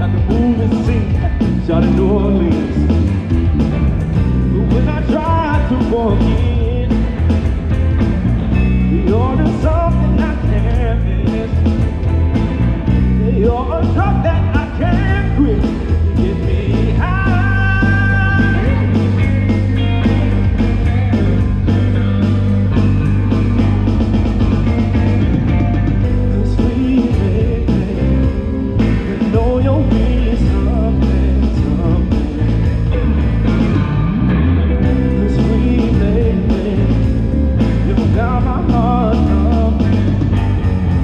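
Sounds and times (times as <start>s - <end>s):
bass guitar: 0.0s - 41.0s
drum kit beat: 0.0s - 41.0s
electric guitar: 0.0s - 41.0s.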